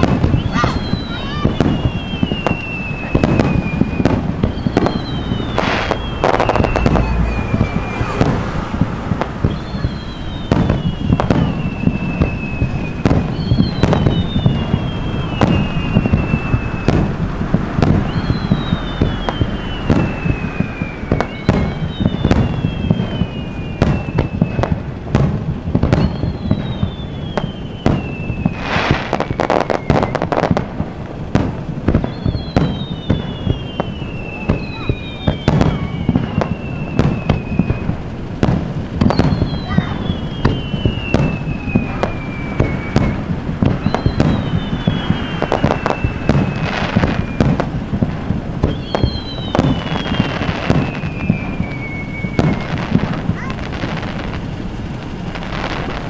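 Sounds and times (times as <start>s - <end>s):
high falling whistle: 0.0s - 24.8s, 25.9s - 30.6s, 31.9s - 38.0s, 38.9s - 47.7s, 48.6s - 56.0s
fireworks bursting: 0.0s - 56.0s
low rumble with crackle: 0.0s - 56.0s.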